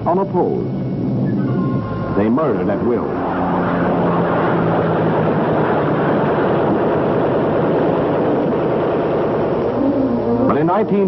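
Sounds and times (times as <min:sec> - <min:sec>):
piston aircraft engines droning: 0:00.0 - 0:11.0.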